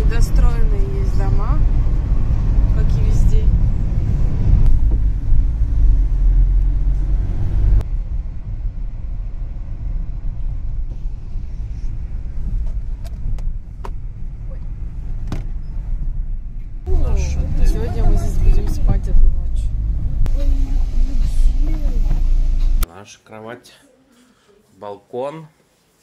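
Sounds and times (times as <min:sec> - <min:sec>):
car road and engine rumble: 0:00.0 - 0:22.9.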